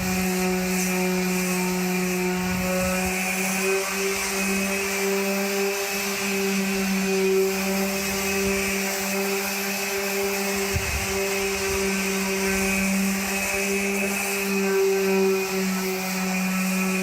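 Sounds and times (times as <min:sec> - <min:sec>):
electric sander on steel: 0:00.0 - 0:17.0.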